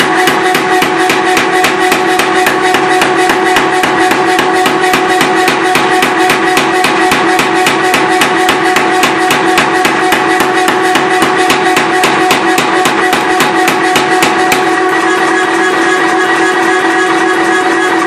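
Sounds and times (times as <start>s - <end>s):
power hammer blows: 0.0s - 18.0s.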